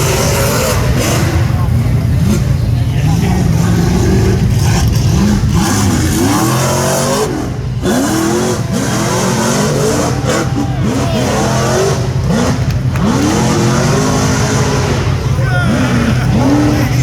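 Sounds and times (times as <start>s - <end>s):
buggy engine revving hard: 0.0s - 17.0s.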